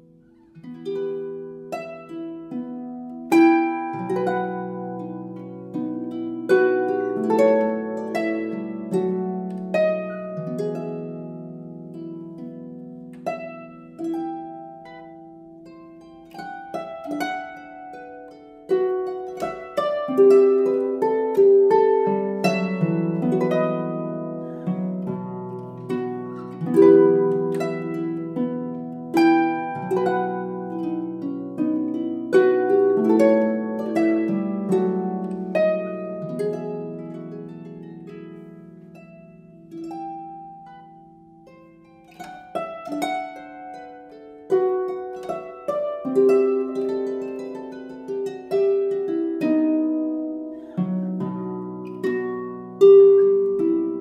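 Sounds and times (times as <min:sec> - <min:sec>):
plucked string music: 0:00.0 - 0:54.0.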